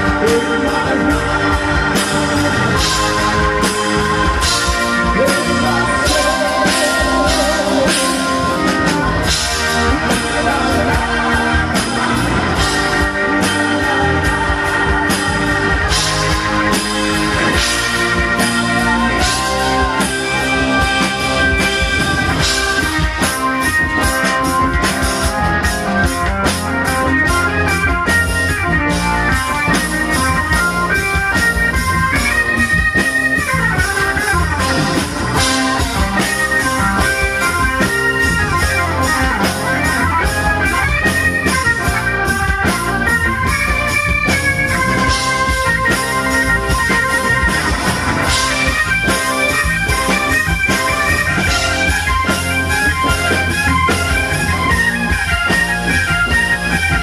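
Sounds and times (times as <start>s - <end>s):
bass guitar: 0.0s - 57.0s
drums: 0.0s - 57.0s
electric guitar: 0.0s - 57.0s
organ: 0.0s - 57.0s.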